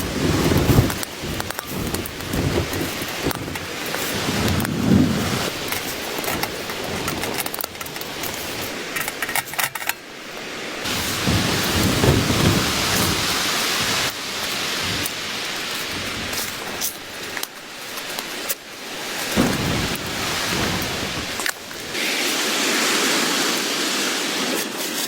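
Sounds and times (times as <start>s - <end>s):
low rumbling wind gusts: 0.0s - 23.6s
wind-driven snow hissing: 0.0s - 25.0s.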